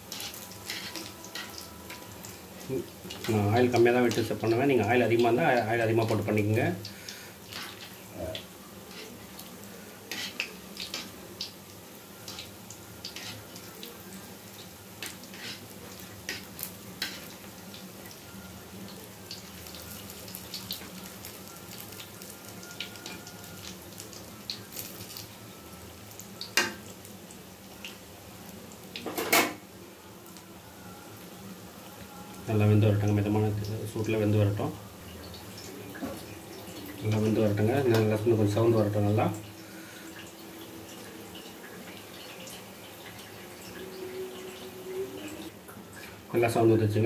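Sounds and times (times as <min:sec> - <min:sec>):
oil sizzling and crackling: 0:00.0 - 0:47.0.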